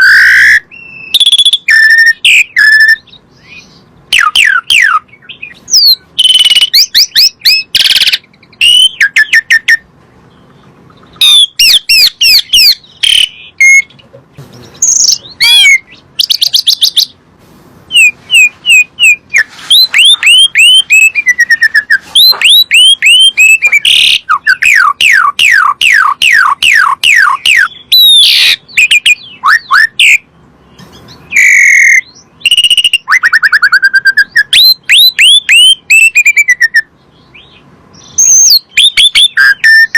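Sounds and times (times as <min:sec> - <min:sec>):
starling song: 0:00.0 - 0:39.9.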